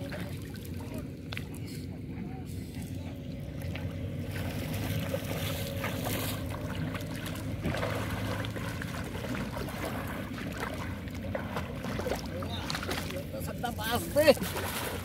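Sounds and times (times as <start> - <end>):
water splashing around wading legs: 0.0 - 2.0, 2.7 - 15.0
steady low hum: 0.0 - 15.0.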